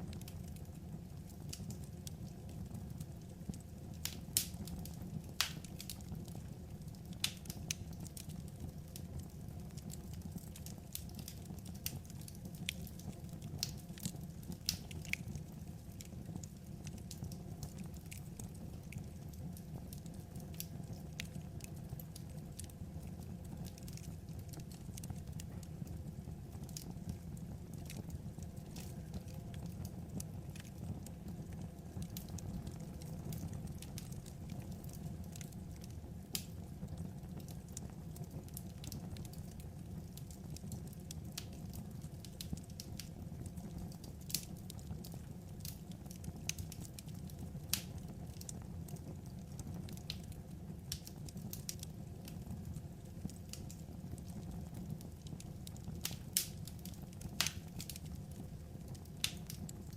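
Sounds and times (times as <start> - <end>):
burning logs crackling and popping: 0.0 - 59.9
wood fire low rumble: 0.0 - 59.9.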